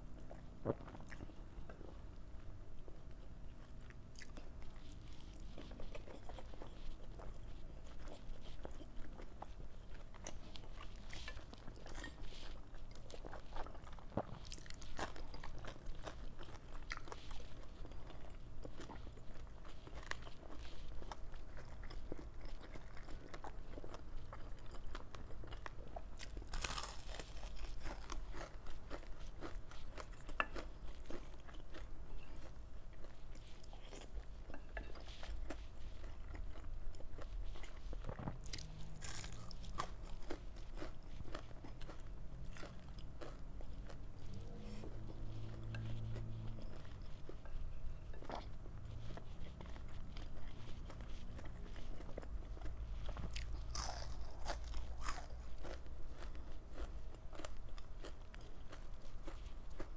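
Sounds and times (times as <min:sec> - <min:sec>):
crunching and wet chewing: 0:00.0 - 0:59.9.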